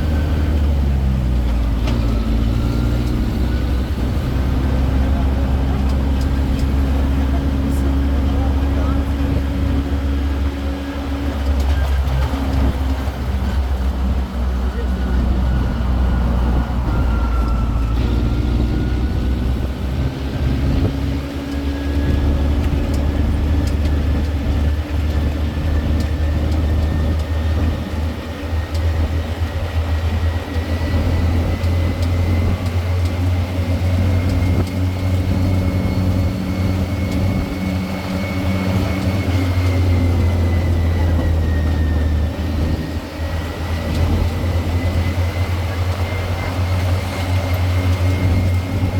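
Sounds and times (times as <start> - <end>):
train engine humming with whine: 0.0 - 48.9.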